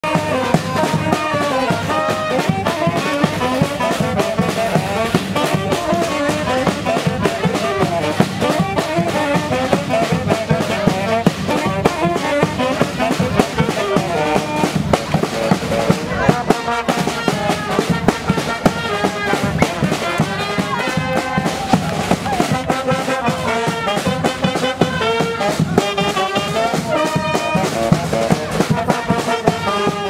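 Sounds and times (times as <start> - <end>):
brass band horns playing: 0.0 - 30.0
rhythmic drum beat: 0.0 - 30.0.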